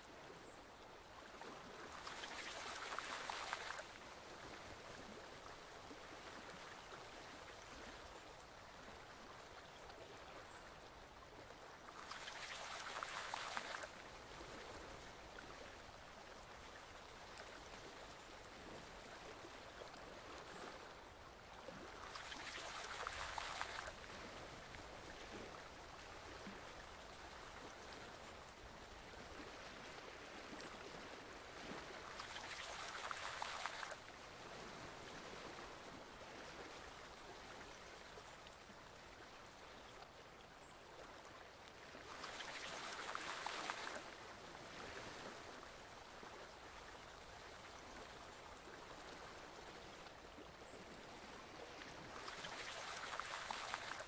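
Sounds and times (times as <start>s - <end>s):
forest stream flowing: 0.0s - 54.0s.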